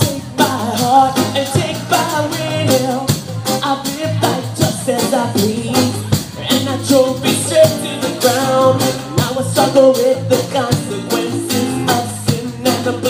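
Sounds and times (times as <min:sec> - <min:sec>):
drum kit: 0:00.0 - 0:13.0
man singing: 0:00.0 - 0:13.0.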